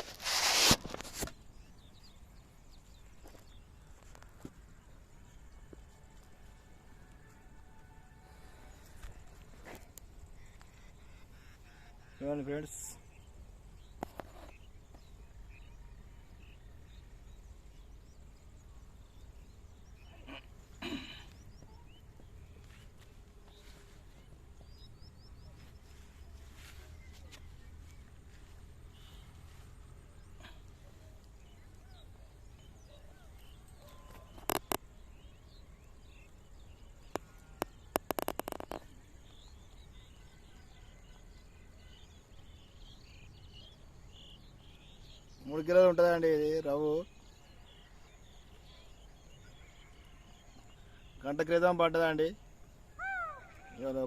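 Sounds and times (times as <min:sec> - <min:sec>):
faint insect drone: 0:00.0 - 0:45.4
birds chirping: 0:00.0 - 0:54.0.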